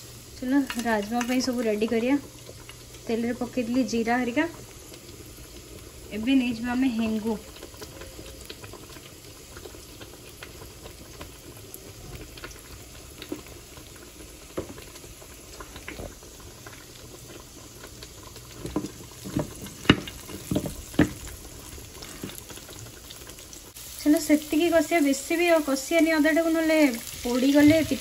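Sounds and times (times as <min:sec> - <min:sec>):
spices sizzling in hot oil: 0:00.0 - 0:28.0.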